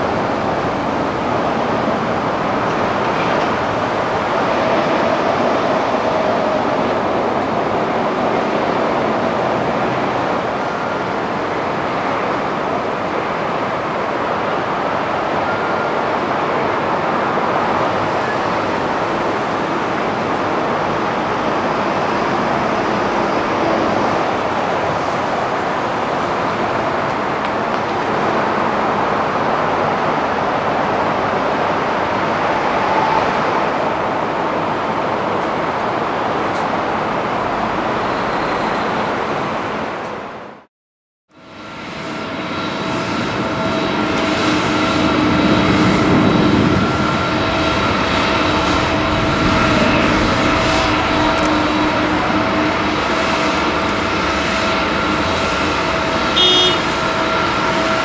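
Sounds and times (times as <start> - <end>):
airport apron rumble and hiss: 0.0 - 40.6, 41.5 - 58.0.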